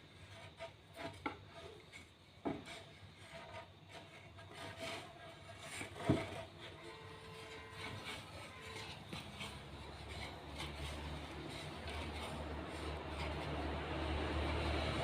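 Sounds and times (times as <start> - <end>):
wood being rubbed: 0.1 - 15.0.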